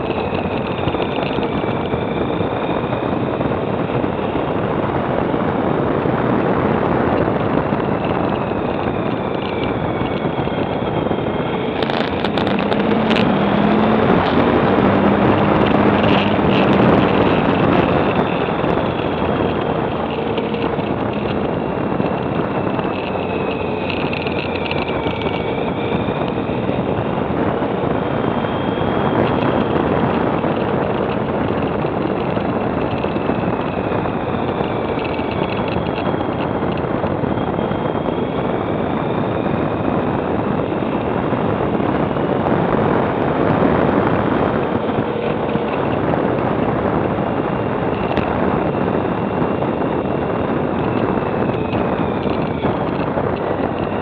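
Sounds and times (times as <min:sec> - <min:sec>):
motorcycle engine: 0:00.0 - 0:54.0
wind rush over microphone: 0:00.0 - 0:54.0.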